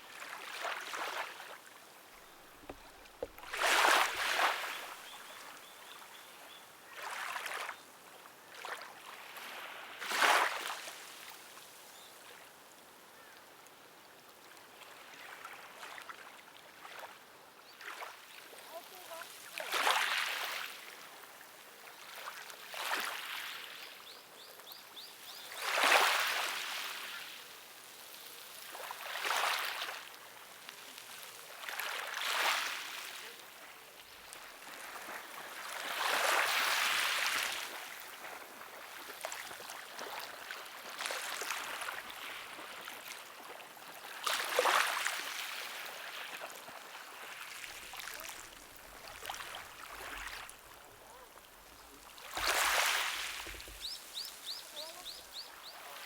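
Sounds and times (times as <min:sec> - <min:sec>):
small waves lapping: 0:00.0 - 0:12.5, 0:14.3 - 0:56.0.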